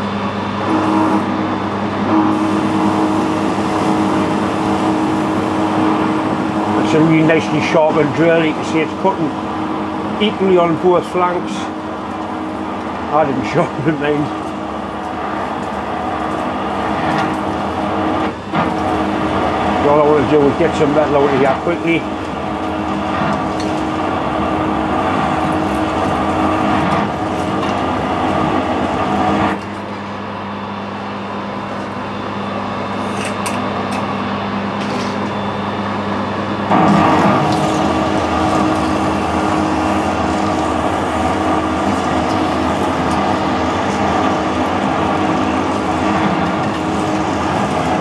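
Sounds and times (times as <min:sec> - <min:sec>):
low machine hum: 0:00.0 - 0:48.0
lathe drilling metal: 0:00.6 - 0:29.7, 0:36.7 - 0:48.0.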